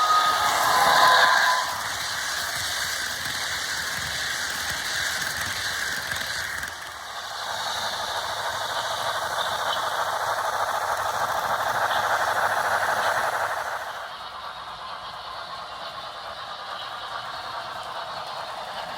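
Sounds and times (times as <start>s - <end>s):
model train rattling on track: 0.0s - 18.9s.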